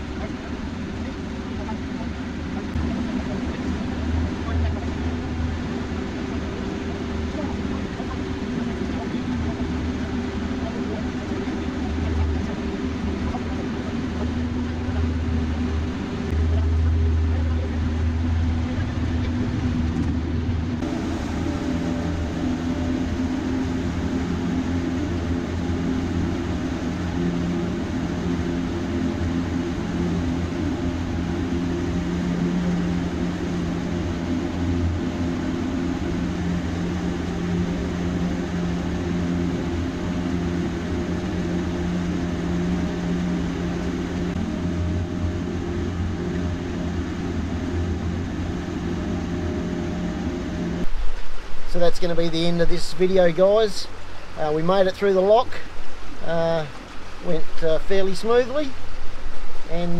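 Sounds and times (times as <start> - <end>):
boat motor droning: 0.0 - 59.9.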